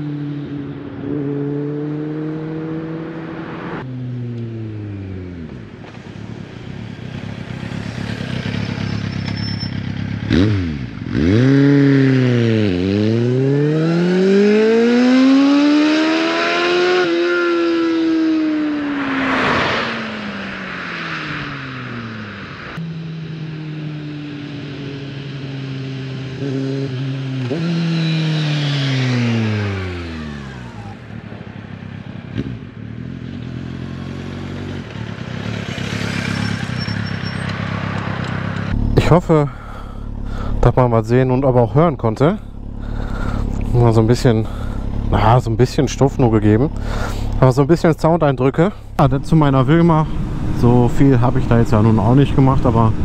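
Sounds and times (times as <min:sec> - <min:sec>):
motorcycle revving through gears: 0:00.0 - 0:06.0, 0:06.6 - 0:53.0.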